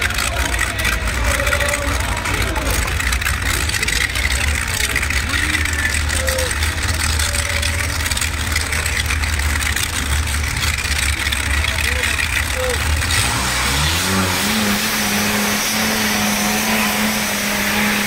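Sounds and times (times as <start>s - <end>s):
crowd noise: 0.0s - 18.0s
tractor engine idling: 0.0s - 18.0s
voices: 0.0s - 18.0s.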